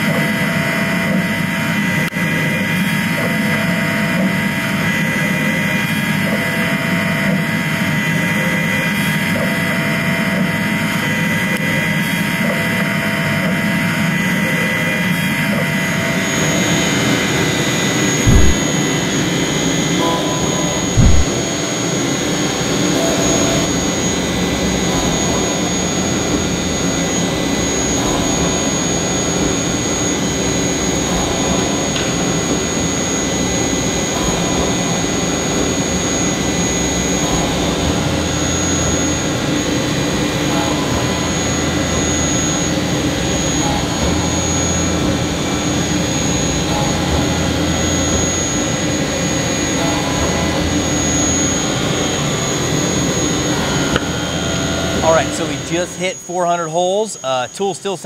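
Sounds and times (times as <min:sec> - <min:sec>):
high-pitched machine whine: 0:00.0 - 0:58.0
lathe machining noise: 0:00.0 - 0:58.0.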